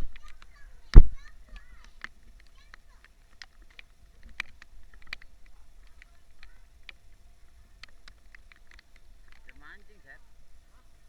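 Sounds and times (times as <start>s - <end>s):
raindrops tapping on hard surfaces: 0.0s - 11.0s.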